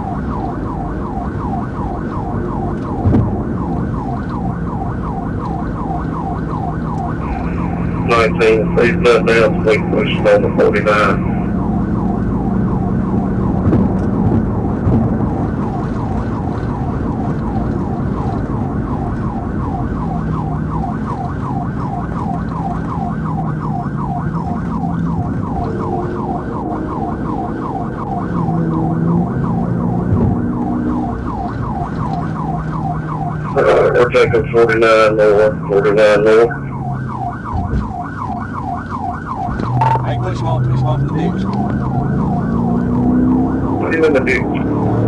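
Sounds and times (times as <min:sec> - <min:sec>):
car engine and road noise: 0:00.0 - 0:45.0
police siren yelping: 0:00.0 - 0:45.0.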